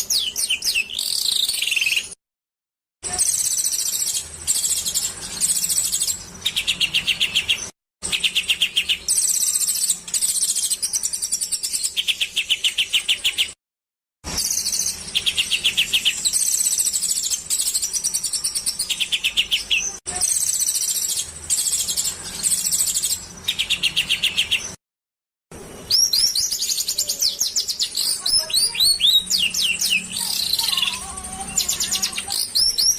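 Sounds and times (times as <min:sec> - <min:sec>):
songbirds singing: 0:00.0 - 0:02.2, 0:03.1 - 0:13.6, 0:14.3 - 0:24.8, 0:25.8 - 0:32.9.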